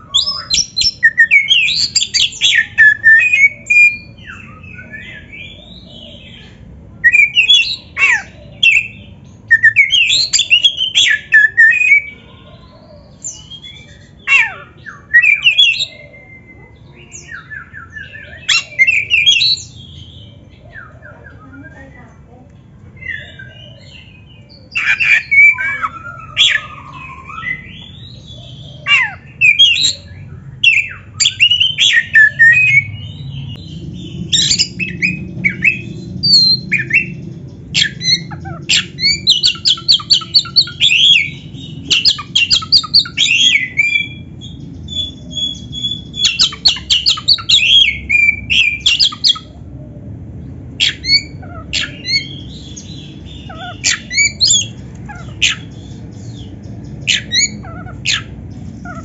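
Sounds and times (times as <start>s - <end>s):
bird singing: 0.0s - 22.4s, 23.0s - 49.7s, 50.3s - 59.0s
low background hum: 0.0s - 59.0s.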